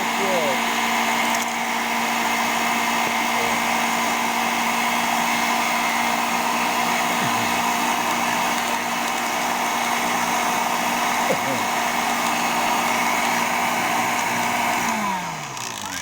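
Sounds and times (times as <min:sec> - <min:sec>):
electric blender motor whine: 0:00.0 - 0:16.0.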